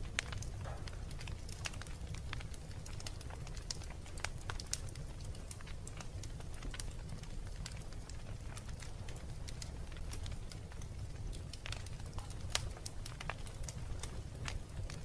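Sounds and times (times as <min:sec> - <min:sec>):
low steady fire rumble: 0:00.0 - 0:15.0
wood fire crackling and popping: 0:00.0 - 0:15.0.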